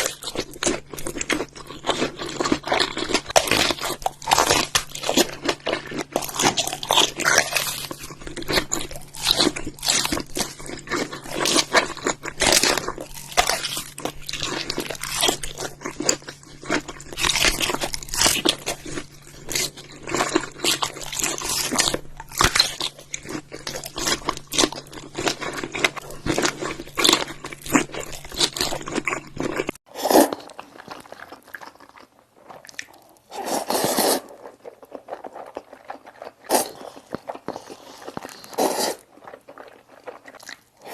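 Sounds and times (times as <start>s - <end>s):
crunchy food chewing: 0.0s - 40.9s.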